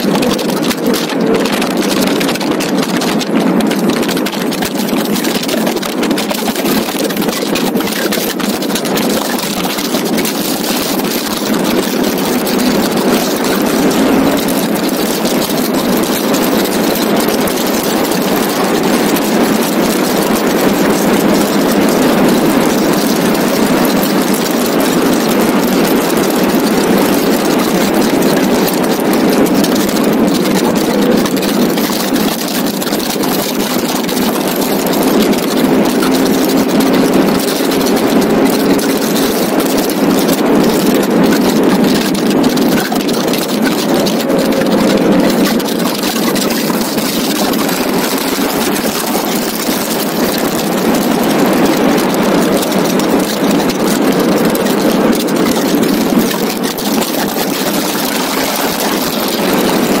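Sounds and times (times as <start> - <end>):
car engine running hard: 0.0 - 60.0
wind rushing over microphone: 0.0 - 60.0.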